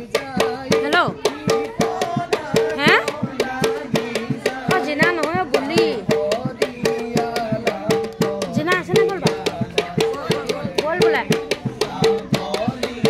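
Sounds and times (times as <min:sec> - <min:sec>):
quick steady drum beat: 0:00.0 - 0:13.0.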